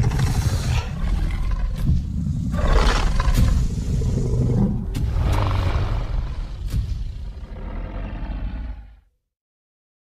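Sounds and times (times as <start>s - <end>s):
deep rumbling dinosaur growl: 0.0s - 9.1s.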